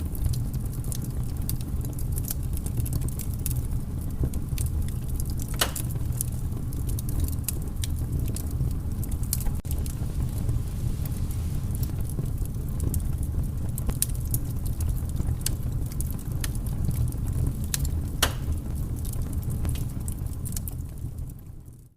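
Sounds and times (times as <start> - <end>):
fire crackling and popping: 0.0 - 21.9
low fire rumble: 0.0 - 21.9.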